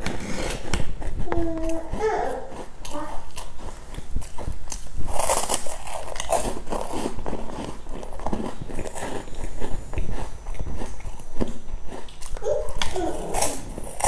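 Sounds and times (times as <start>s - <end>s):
chewing pastry mouth sounds: 1.0s - 14.0s.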